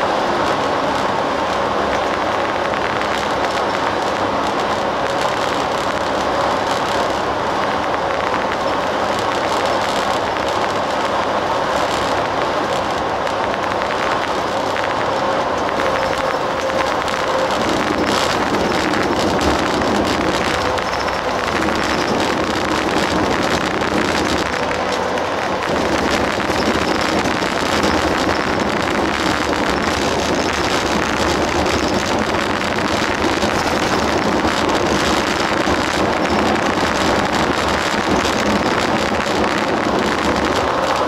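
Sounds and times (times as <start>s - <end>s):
tyre and road noise: 0.0s - 41.0s.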